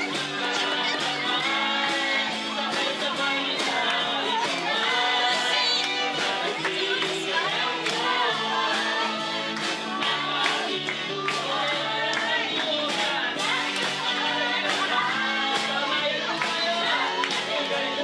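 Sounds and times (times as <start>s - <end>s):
drums: 0.0s - 18.0s
electric guitars: 0.0s - 18.0s
people singing: 0.0s - 18.0s.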